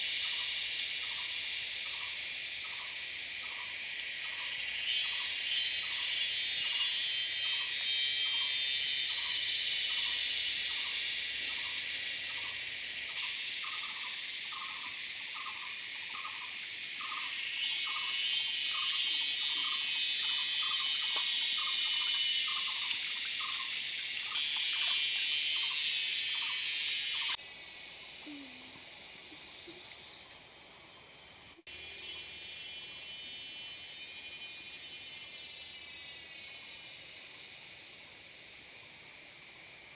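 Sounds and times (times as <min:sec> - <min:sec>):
insects buzzing and trilling: 0:00.0 - 0:39.9.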